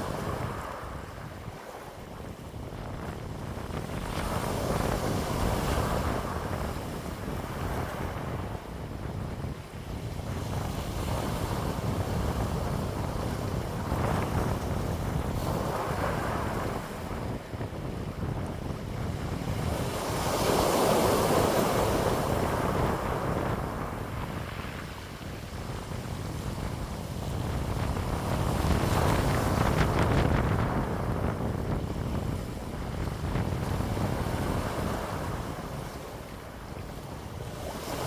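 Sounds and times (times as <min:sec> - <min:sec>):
wind blowing in gusts: 0:00.0 - 0:38.0.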